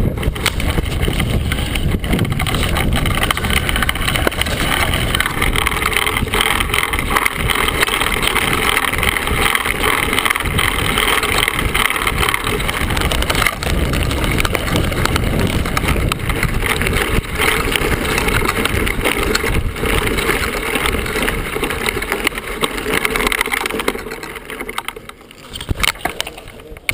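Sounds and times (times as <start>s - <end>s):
bike frame rattling: 0.0s - 26.9s
tyres rolling over gravel: 0.0s - 26.9s.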